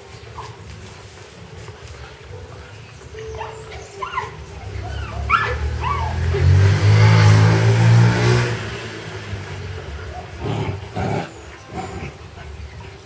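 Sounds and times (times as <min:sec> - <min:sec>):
puppies growling: 0:00.0 - 0:13.0.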